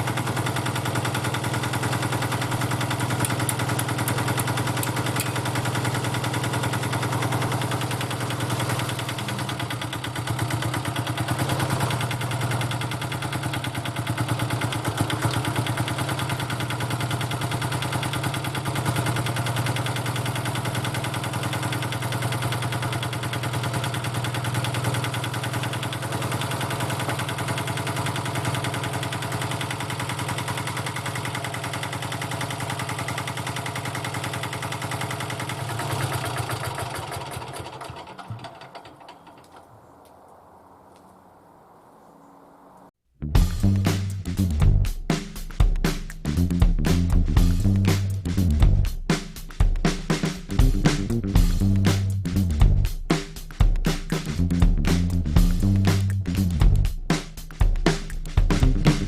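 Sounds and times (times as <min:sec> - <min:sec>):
diesel engine running: 0:00.0 - 0:39.6, 0:43.2 - 0:45.2, 0:46.2 - 0:59.0.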